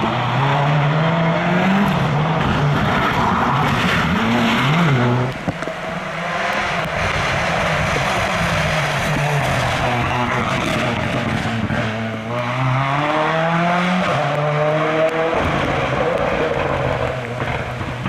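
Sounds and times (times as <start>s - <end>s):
rally car engine roaring: 0.0s - 18.0s.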